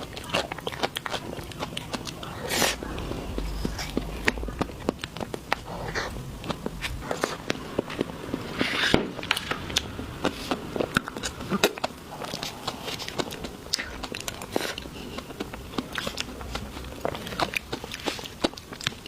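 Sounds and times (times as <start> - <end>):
desserts being bitten and chewed: 0.0 - 19.0.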